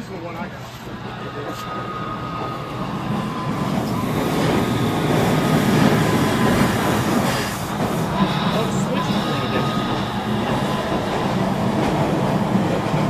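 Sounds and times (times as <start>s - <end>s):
model train running past: 0.2s - 13.0s.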